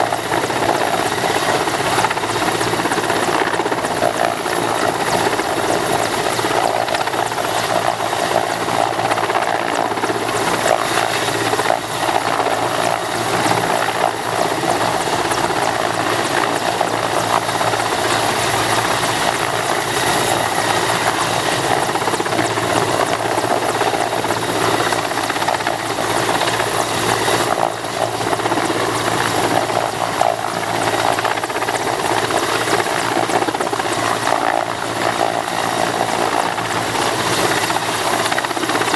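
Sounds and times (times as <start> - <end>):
helicopter rotor beating: 0.0 - 38.9.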